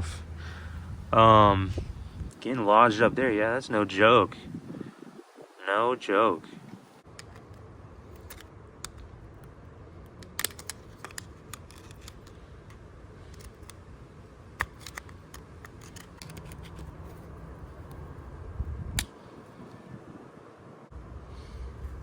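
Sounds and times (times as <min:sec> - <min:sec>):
steady low rumble: 0:00.0 - 0:05.6, 0:06.6 - 0:22.0.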